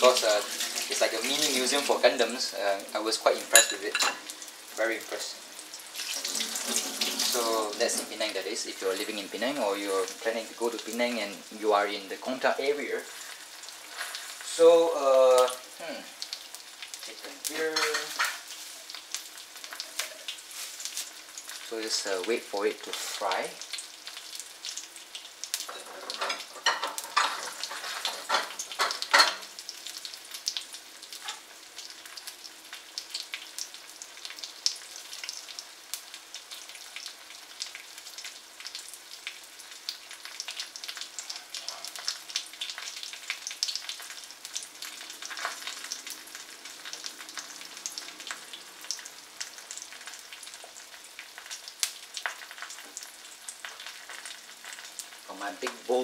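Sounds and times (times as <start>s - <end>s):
egg sizzling in hot oil: 0.0s - 56.0s.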